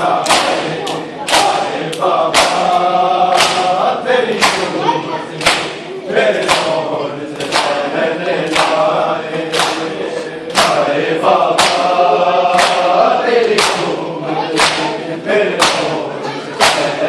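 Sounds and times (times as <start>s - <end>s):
crowd of men chanting: 0.0s - 17.0s.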